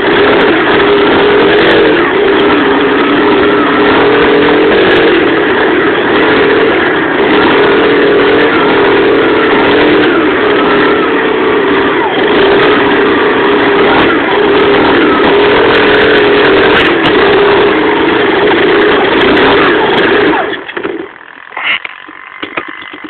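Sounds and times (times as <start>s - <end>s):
motorbike engine revving: 0.0s - 23.0s.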